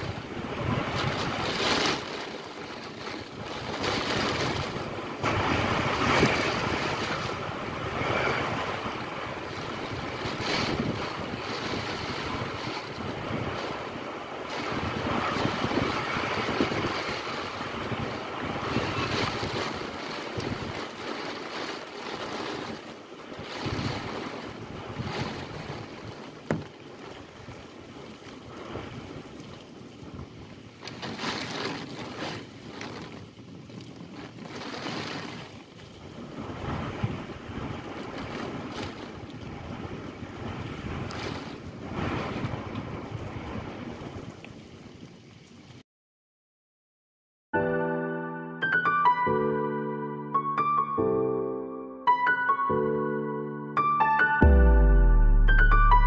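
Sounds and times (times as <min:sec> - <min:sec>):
wind gusting on microphone: 0:00.0 - 0:45.1.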